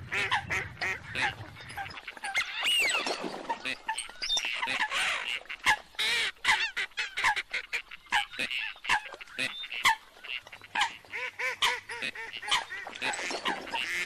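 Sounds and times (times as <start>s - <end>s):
ducks and water birds calling: 0.0s - 14.0s.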